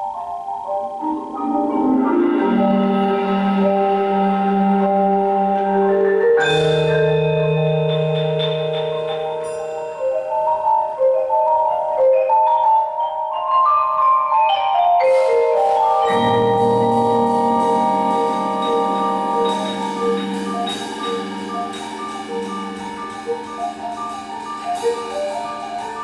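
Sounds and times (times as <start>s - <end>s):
marimbas playing: 0.0s - 26.0s.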